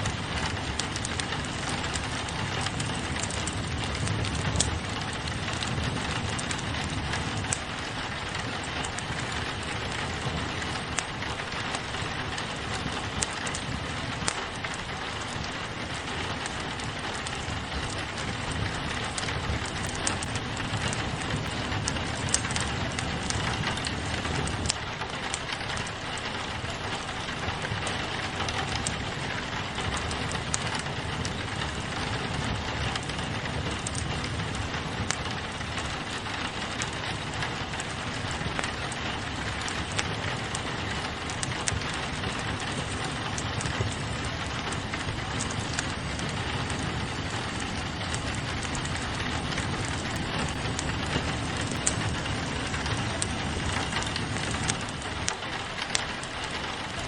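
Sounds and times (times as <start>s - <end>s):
rain pattering on a window: 0.0s - 57.0s
wood fire crackling: 0.0s - 57.0s.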